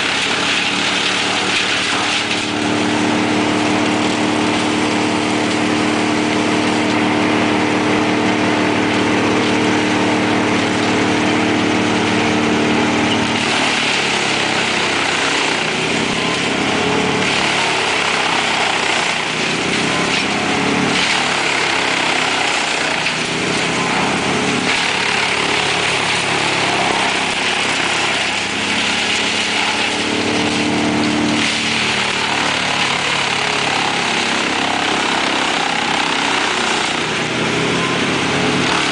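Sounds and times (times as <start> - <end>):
branches being chipped: 0.0 - 7.0, 13.2 - 37.4
wood chipper humming: 0.0 - 38.9.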